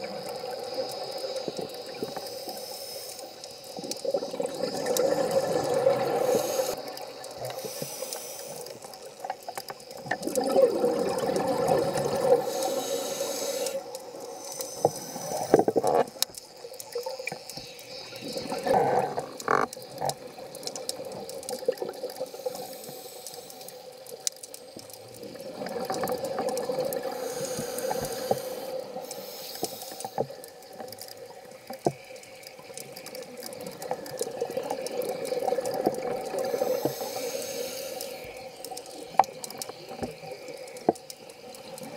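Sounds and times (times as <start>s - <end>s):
exhaled air bubbling underwater: 0.0s - 41.9s.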